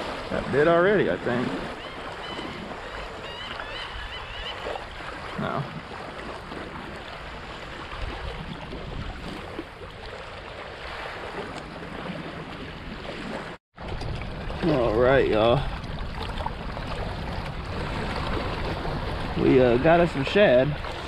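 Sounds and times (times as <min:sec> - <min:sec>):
small waves lapping: 0:00.0 - 0:21.0
wind on microphone: 0:00.0 - 0:21.0.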